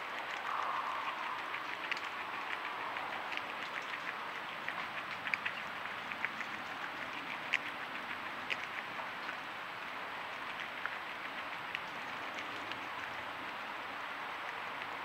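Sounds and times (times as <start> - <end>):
agouti gnawing fruit: 0.0 - 15.0
forest background hiss: 0.0 - 15.0.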